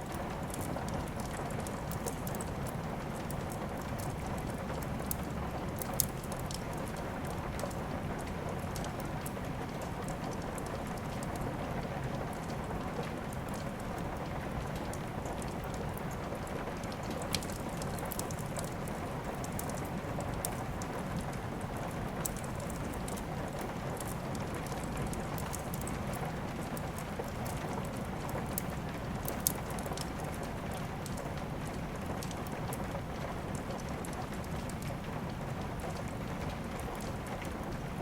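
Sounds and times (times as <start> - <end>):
steady rain falling: 0.0 - 38.0
wood fire crackling: 0.0 - 38.0.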